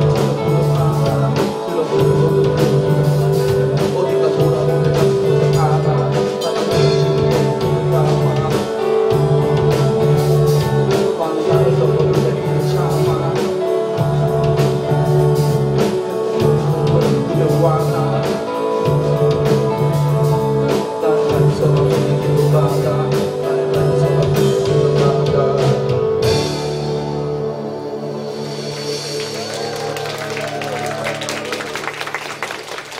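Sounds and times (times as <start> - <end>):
electric guitar: 0.0 - 32.2
live rock band playing: 0.0 - 32.9.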